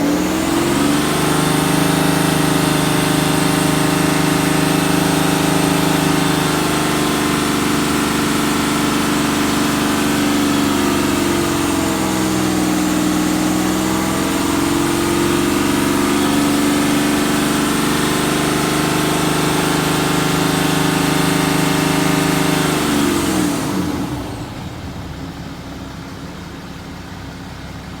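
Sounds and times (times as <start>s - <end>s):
diesel engine at raised revs: 0.0s - 28.0s.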